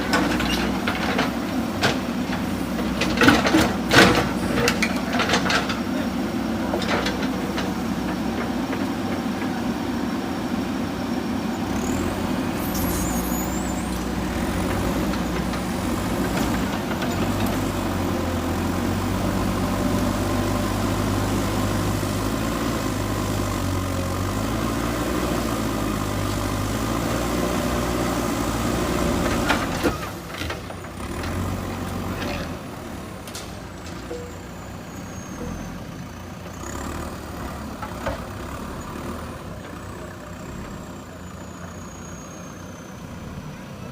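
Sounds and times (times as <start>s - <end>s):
diesel engine under load: 0.0s - 43.9s.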